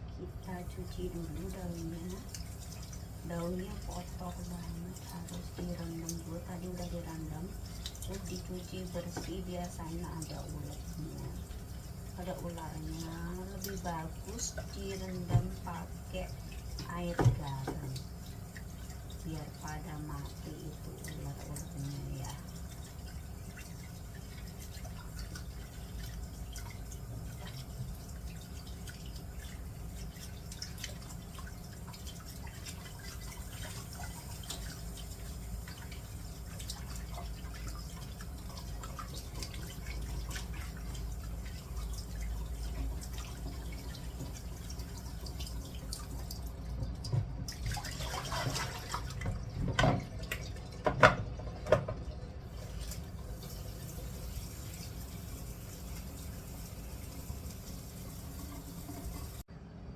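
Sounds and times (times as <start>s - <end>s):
water dripping and splashing: 0.2s - 59.5s.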